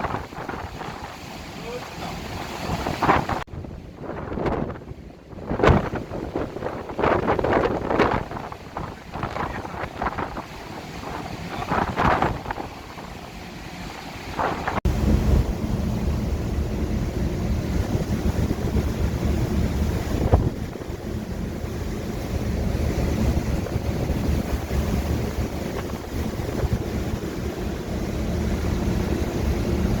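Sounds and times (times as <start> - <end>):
strong wind buffeting microphone: 0.0 - 13.2, 14.2 - 30.0.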